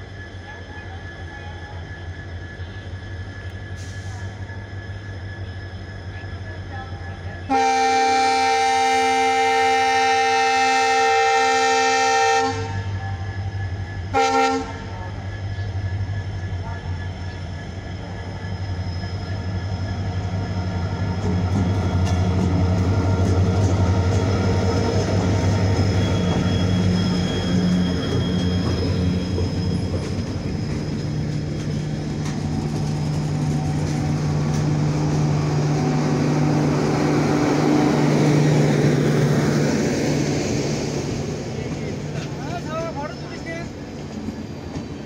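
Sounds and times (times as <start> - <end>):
diesel locomotive engine droning: 0.0 - 45.0
passenger coaches rolling past: 0.0 - 45.0.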